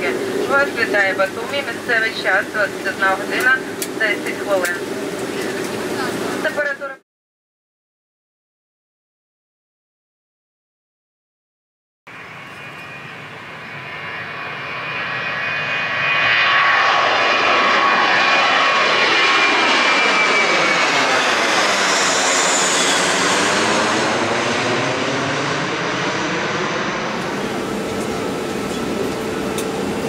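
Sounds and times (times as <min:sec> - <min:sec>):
jet engines passing overhead: 0:00.0 - 0:07.0, 0:12.1 - 0:30.0.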